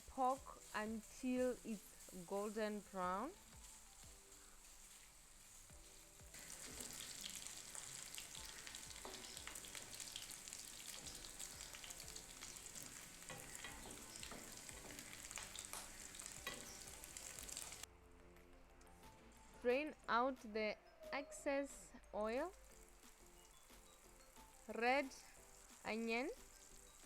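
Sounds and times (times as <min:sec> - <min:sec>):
meat frying in oil: 0:00.0 - 0:17.9, 0:22.3 - 0:27.0.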